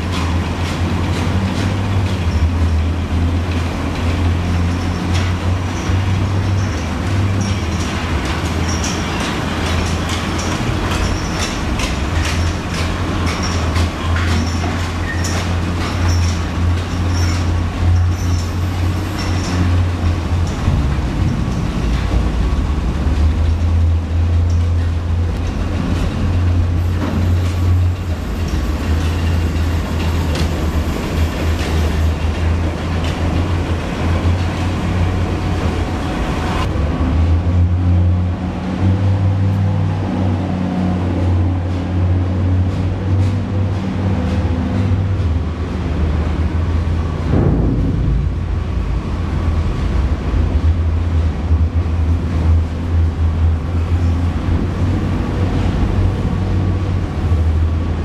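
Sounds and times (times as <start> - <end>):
machinery rattling and clattering: 0.0 - 38.6, 39.2 - 58.0
mining machinery low drone: 0.0 - 58.0.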